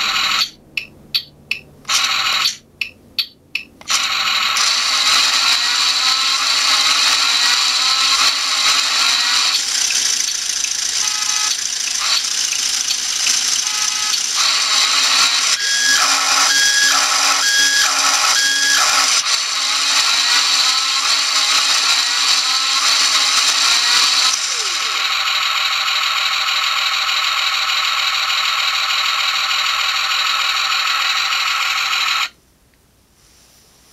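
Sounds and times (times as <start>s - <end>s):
toy car electric motor whining: 0.0s - 0.6s, 1.9s - 2.6s, 3.8s - 32.4s.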